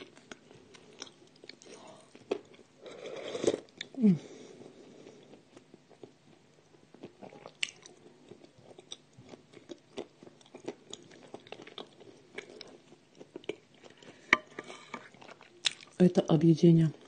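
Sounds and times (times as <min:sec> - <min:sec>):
person chewing with crunches: 0:00.0 - 0:16.0.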